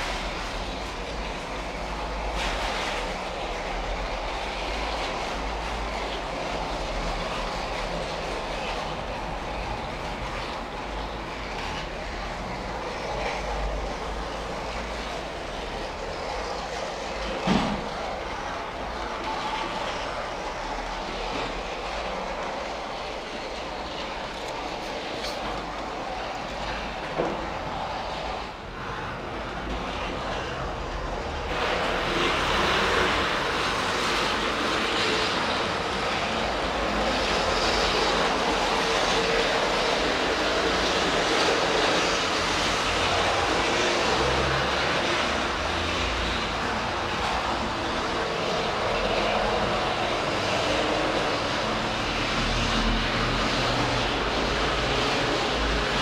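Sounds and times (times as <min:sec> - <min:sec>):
model train electric motor: 0:00.0 - 0:56.0
wheels rolling on rails: 0:00.0 - 0:56.0.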